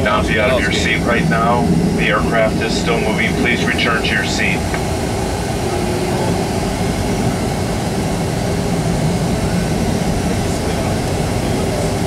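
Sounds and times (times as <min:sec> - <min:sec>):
cabin air-conditioning hum: 0:00.0 - 0:12.0
jet engines idling: 0:00.0 - 0:12.0.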